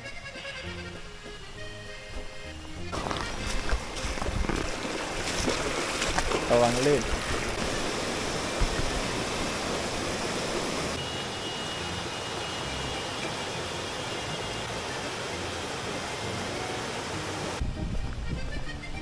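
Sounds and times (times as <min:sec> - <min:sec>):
flowing water rushing: 0:00.6 - 0:17.6.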